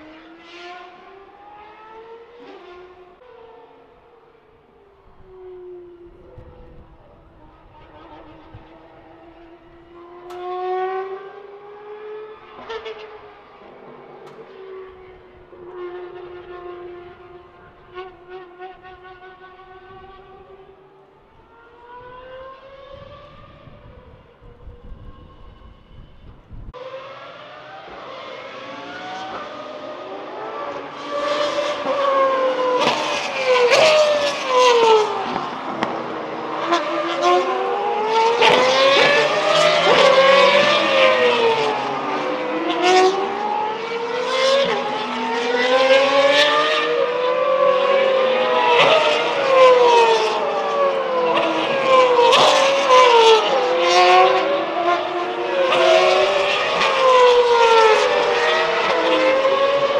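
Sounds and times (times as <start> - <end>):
race car engines at high revs: 0.0 - 4.3, 5.3 - 59.9.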